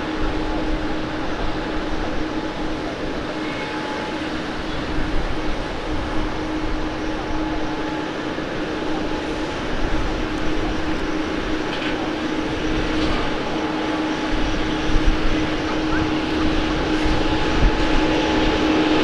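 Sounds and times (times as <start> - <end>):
constant low hum: 0.0 - 19.0
jet engine roar: 0.0 - 19.0.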